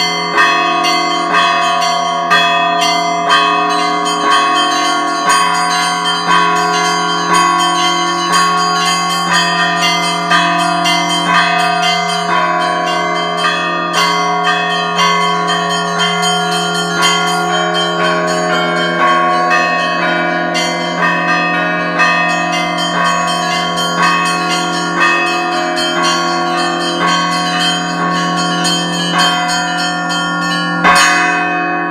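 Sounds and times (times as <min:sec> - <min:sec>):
church bells ringing: 0:00.0 - 0:31.9.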